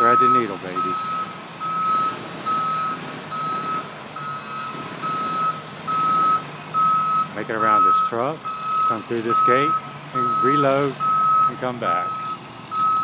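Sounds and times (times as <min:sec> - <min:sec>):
truck backup alarm beeping: 0:00.0 - 0:13.0
truck engine humming: 0:00.0 - 0:13.0.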